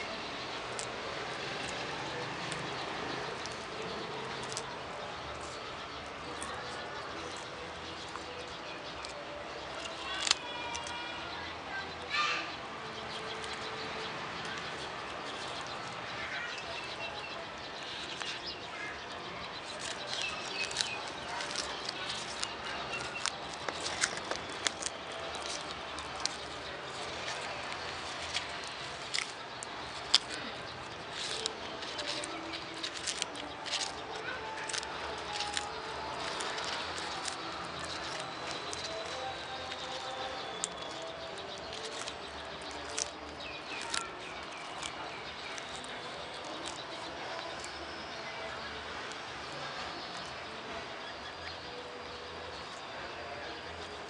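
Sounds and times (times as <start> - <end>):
small birds chirping: 0.0 - 54.0
tortoise tearing leaves: 0.0 - 54.0.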